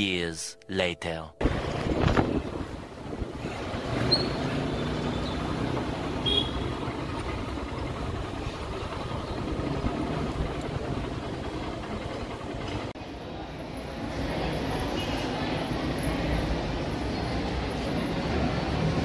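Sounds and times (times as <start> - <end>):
road and wind noise: 1.4 - 19.0
scooter engine hum: 1.4 - 19.0.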